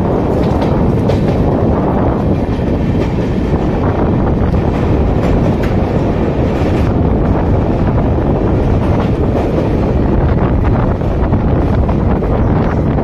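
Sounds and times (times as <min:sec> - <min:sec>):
train wheels rumbling on rails: 0:00.0 - 0:13.0
wind rushing past microphone: 0:00.0 - 0:13.0.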